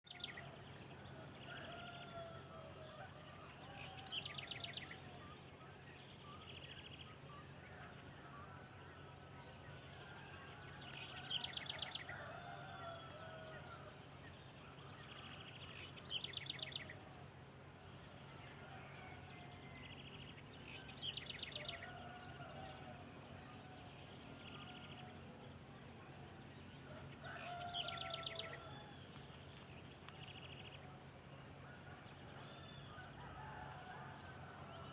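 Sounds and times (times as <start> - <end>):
steady low hum: 0.2 - 34.9.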